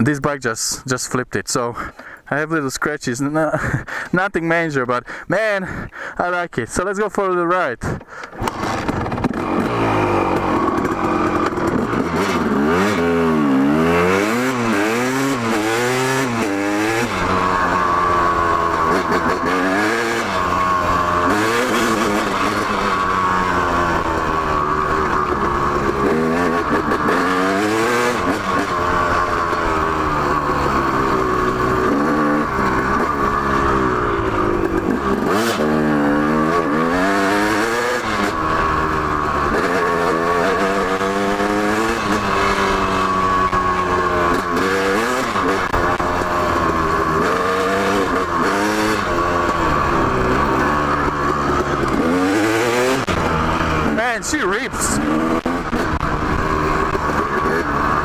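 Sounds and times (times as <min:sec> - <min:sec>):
dirt bike engine revving: 0:08.1 - 0:58.0.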